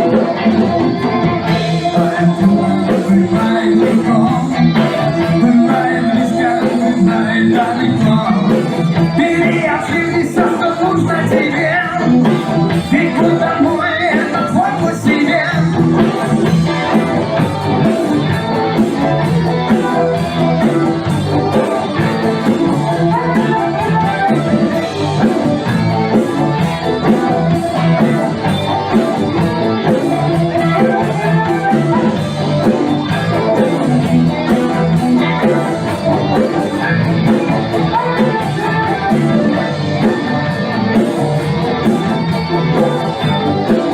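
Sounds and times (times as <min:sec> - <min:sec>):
band playing with guitar: 0:00.0 - 0:43.9
person singing: 0:00.0 - 0:43.9.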